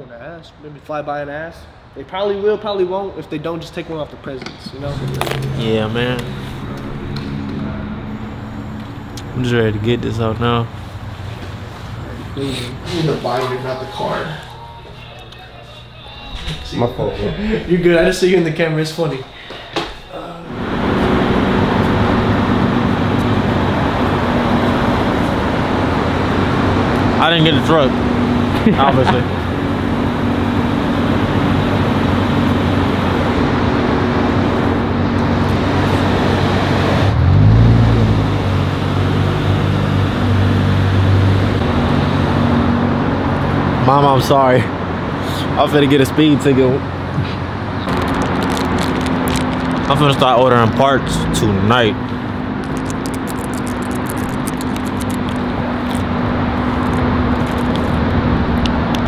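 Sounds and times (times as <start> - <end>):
car road and engine noise: 3.4 - 15.5, 20.5 - 59.0.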